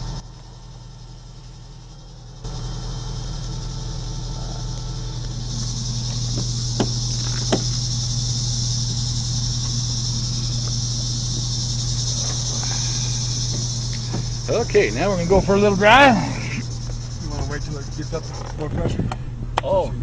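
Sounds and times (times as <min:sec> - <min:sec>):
high steady hiss: 0:00.0 - 0:19.9
truck engine idling: 0:00.0 - 0:20.0.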